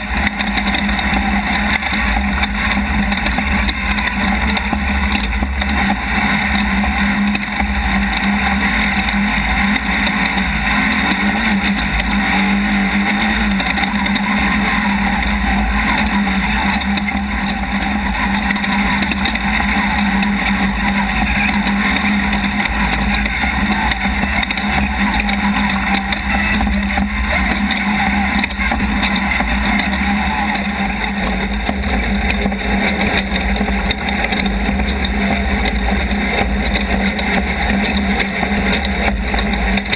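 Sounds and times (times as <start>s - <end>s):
race car engine drone: 0.0s - 39.9s
wind and terrain noise: 0.0s - 39.9s.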